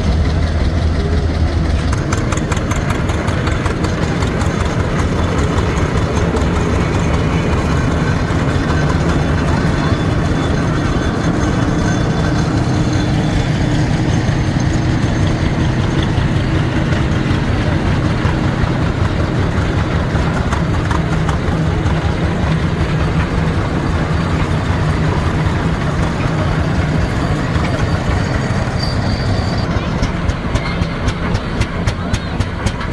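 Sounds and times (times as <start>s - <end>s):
large engine droning: 0.0s - 32.9s.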